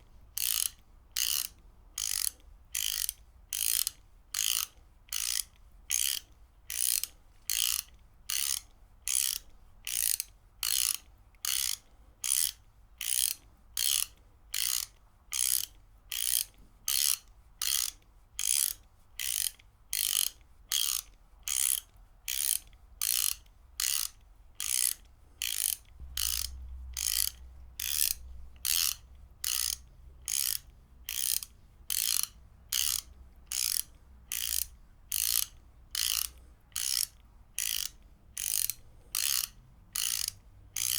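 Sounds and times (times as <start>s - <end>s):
ratchet wrench clicking: 0.4s - 40.9s.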